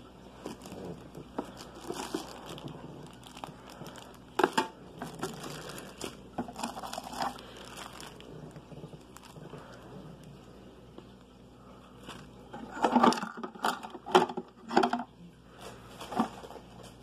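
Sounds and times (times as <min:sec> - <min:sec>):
plastic bags crinkling: 0:00.0 - 0:15.0, 0:15.6 - 0:17.0.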